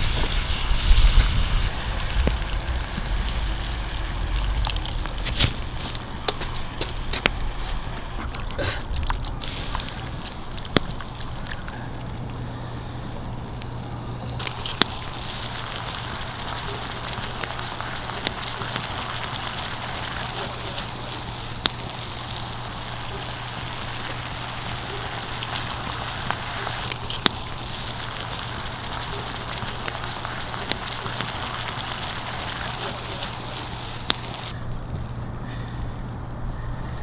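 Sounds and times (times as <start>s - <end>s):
food sizzling in hot oil: 0.0s - 12.3s, 13.0s - 34.6s
oil popping: 0.0s - 37.0s.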